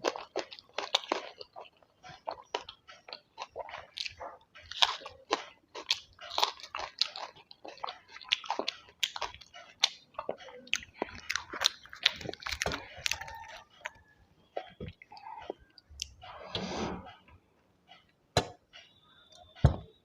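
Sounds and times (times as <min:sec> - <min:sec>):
person chewing crunchy food: 0:00.0 - 0:16.4.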